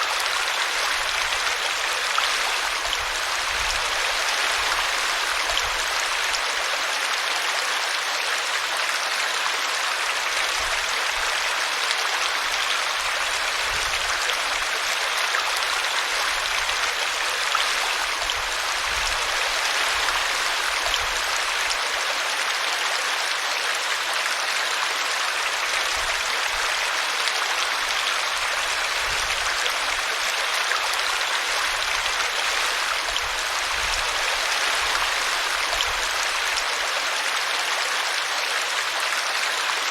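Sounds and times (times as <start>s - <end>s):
brook babbling over root: 0.0s - 39.9s.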